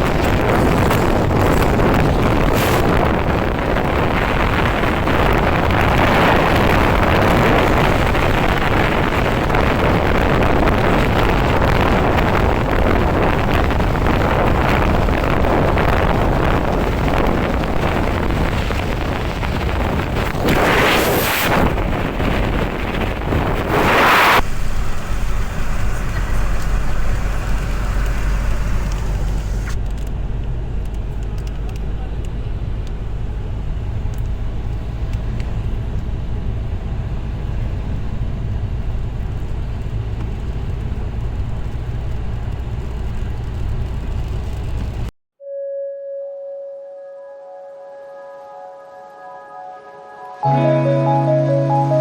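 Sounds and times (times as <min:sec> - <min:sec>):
low engine hum: 0:00.0 - 0:20.8, 0:21.5 - 0:45.1
car road and wind noise: 0:00.0 - 0:45.1.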